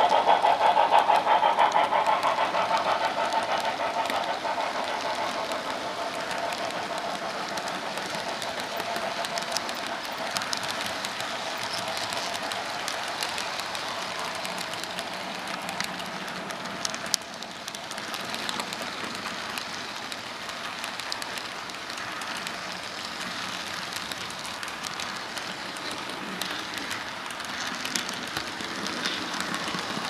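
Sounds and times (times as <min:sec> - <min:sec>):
model train wheels rattling: 0:00.0 - 0:30.0.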